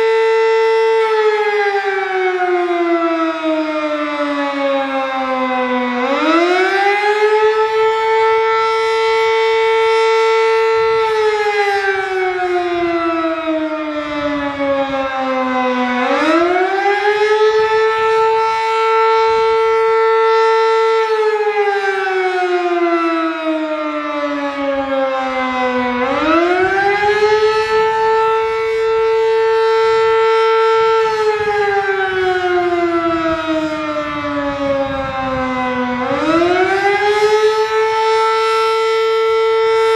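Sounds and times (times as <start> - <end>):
rising and falling warning siren: 0.0 - 39.9.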